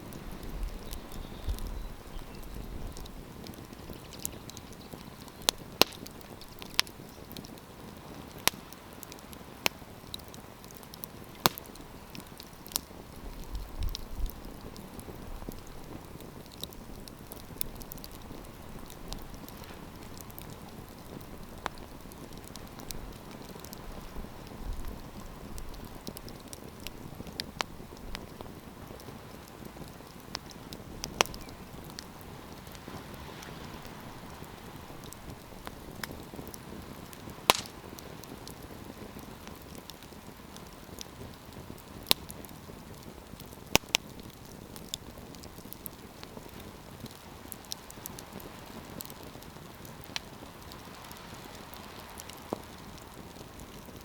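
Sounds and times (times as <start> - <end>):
campfire crackling and hissing: 0.0 - 54.0.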